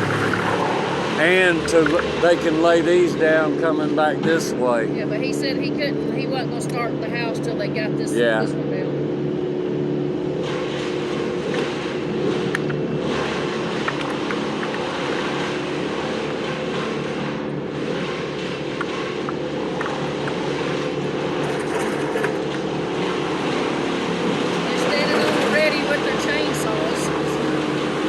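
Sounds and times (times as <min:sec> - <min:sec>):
large engine running: 0:00.0 - 0:28.0.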